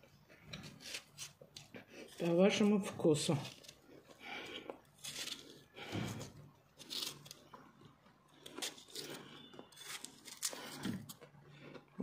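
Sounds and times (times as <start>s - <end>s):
knife cutting pear crunchily: 0.4s - 7.6s, 8.4s - 11.3s.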